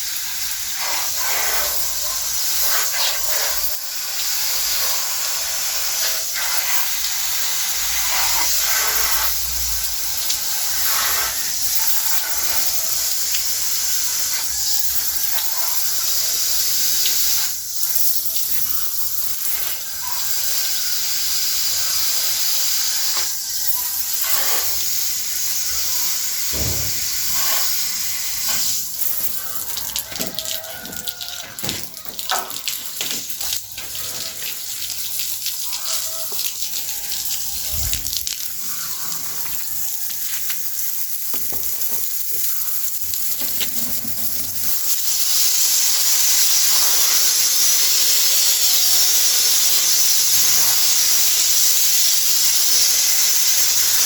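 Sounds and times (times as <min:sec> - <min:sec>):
water spraying with a hiss: 0:00.0 - 0:54.0.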